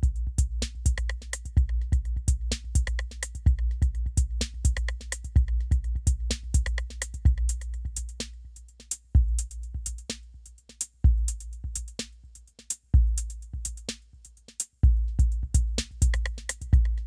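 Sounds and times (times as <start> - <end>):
drum machine beat: 0.0 - 17.0
hi-hat ticks: 0.0 - 17.0.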